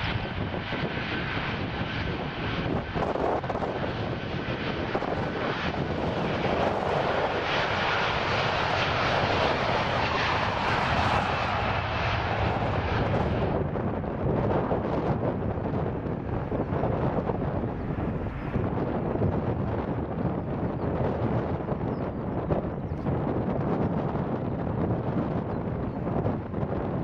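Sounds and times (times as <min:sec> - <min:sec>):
jet engines rumbling: 0:00.0 - 0:27.0
wind buffeting microphone: 0:00.0 - 0:27.0.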